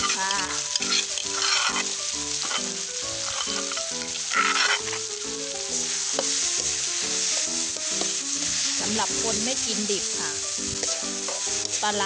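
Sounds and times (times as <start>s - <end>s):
background music: 0.0s - 12.0s
fish paste sizzling in a wok: 0.0s - 12.0s.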